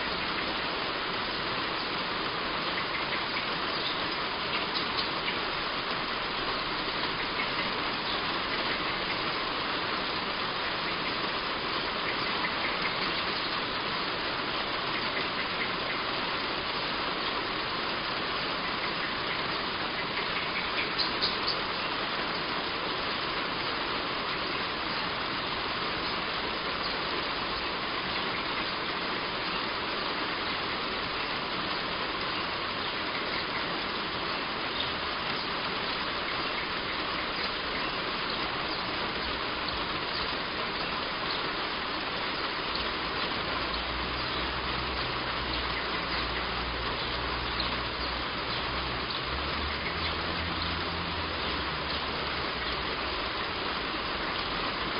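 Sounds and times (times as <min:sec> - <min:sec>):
heavy rain on a roof: 0:00.0 - 0:54.9.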